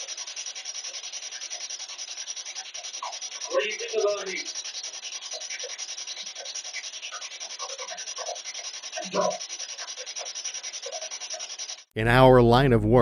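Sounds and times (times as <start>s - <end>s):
snatches of broadcast sound: 0.0s - 13.0s.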